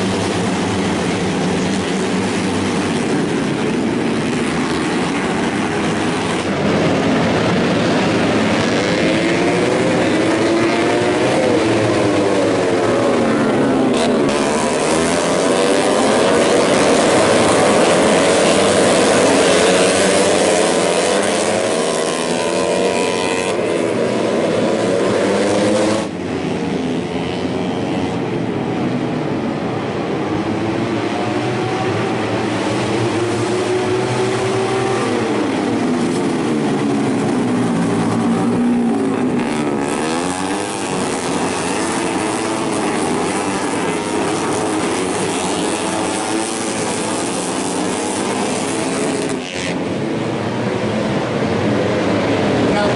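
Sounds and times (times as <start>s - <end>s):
racing motorcycles revving and passing: 0.0s - 52.9s.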